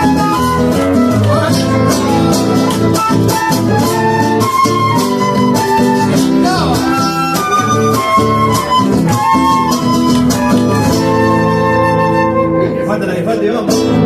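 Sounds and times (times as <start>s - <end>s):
flute melody: 0.0s - 14.0s
strummed acoustic guitars: 0.0s - 14.0s.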